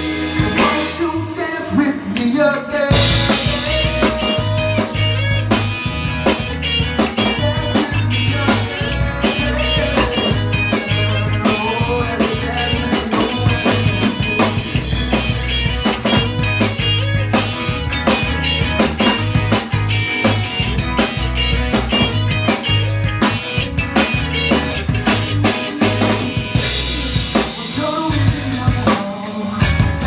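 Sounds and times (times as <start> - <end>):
deep bass line: 0.0 - 30.0
drum kit beat: 0.0 - 30.0
electric guitars: 0.0 - 30.0
rock band playing: 0.0 - 30.0.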